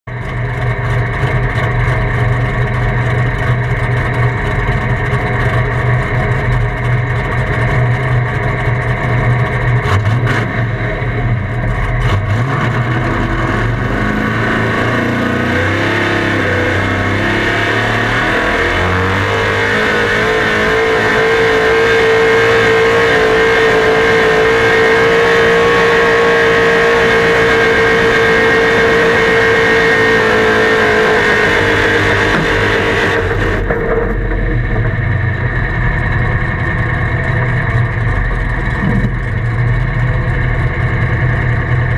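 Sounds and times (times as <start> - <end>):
engine running hard under load: 0.1 - 41.9
steady high whine: 0.1 - 41.9.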